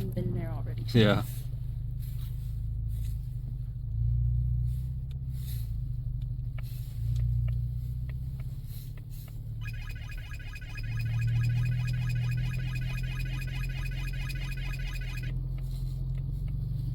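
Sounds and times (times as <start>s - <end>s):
car engine drone inside cabin: 0.0s - 16.9s
road noise: 0.0s - 16.9s.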